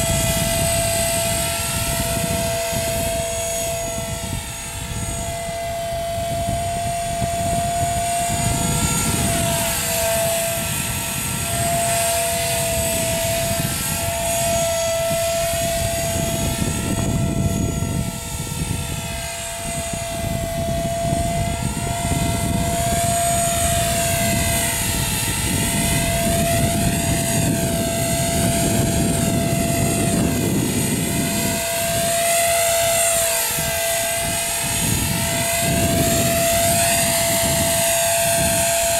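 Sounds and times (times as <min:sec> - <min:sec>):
helicopter rotor noise: 0:00.0 - 0:38.9
rc helicopter motor whine: 0:00.0 - 0:38.9.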